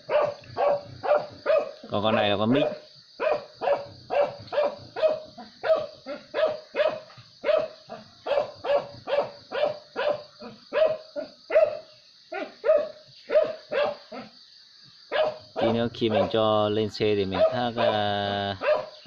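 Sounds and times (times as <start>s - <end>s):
dog barking: 0.0s - 14.4s, 15.1s - 16.6s, 17.2s - 19.0s.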